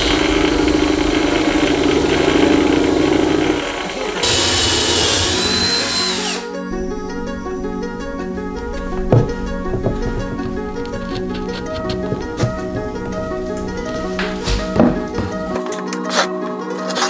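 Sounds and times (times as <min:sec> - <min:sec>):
wood lathe cutting wood: 0:00.0 - 0:15.7.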